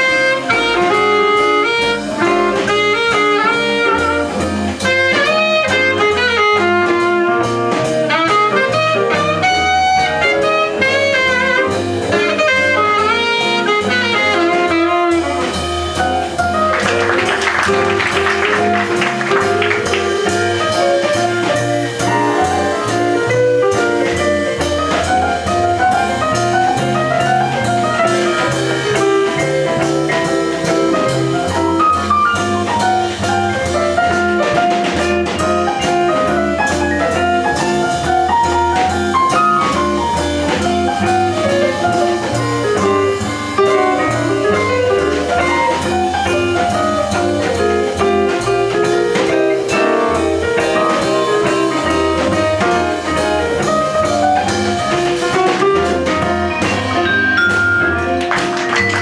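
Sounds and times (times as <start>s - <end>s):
heavy cymbal playing: 0.0s - 58.2s
jazz band playing live: 0.0s - 59.0s
saxophone lead line: 0.0s - 59.0s.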